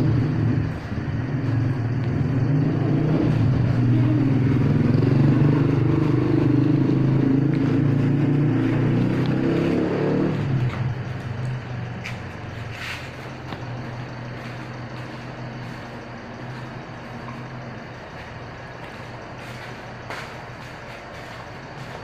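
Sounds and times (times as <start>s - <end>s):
engine running low hum: 0.0s - 22.0s.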